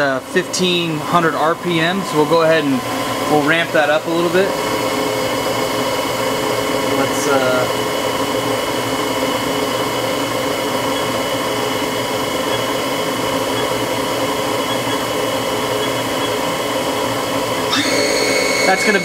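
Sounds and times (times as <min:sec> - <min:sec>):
machine spindle whining: 0:01.1 - 0:19.0.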